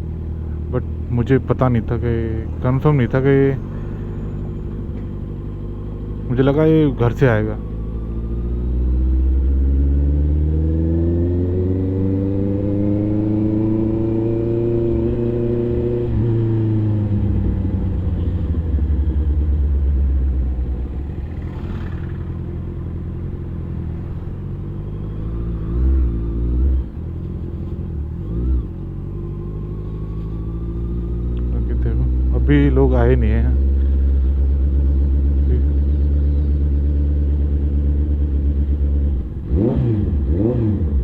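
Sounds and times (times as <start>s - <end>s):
superbike engine revving: 0.0s - 41.0s.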